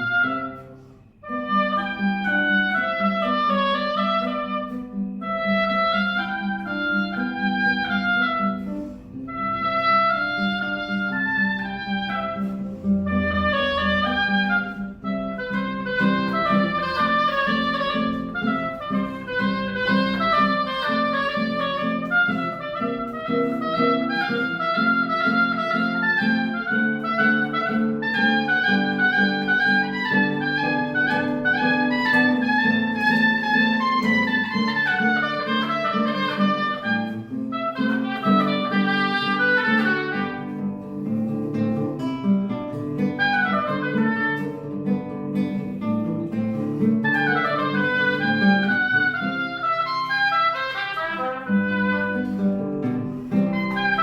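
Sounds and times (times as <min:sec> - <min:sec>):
plucked guitar melody: 0:00.0 - 0:54.0.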